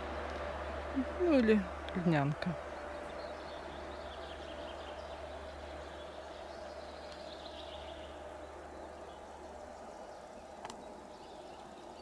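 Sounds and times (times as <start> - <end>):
low steady background hum: 0.0 - 12.0
distant songbird trilling: 0.6 - 12.0.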